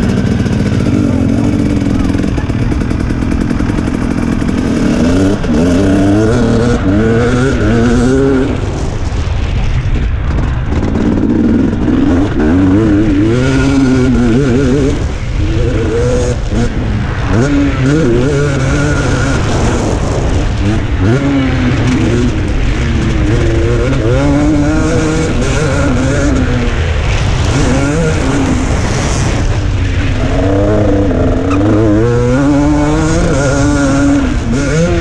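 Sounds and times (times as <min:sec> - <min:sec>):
motocross engine revving: 0:00.0 - 0:09.2, 0:10.0 - 0:35.0.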